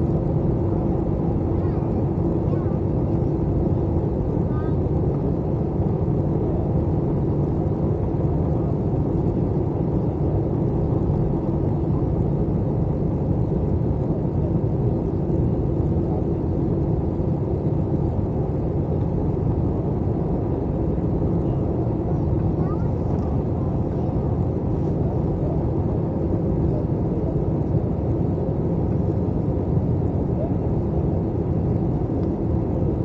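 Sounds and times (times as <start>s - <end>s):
airliner cabin engine rumble: 0.0s - 33.0s
faint steady hum: 0.0s - 33.0s.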